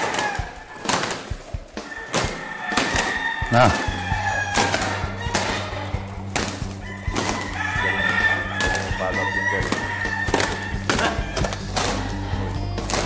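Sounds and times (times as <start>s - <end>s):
rooster crowing: 0.0s - 1.0s, 1.8s - 12.9s
music with a steady beat: 0.3s - 13.0s.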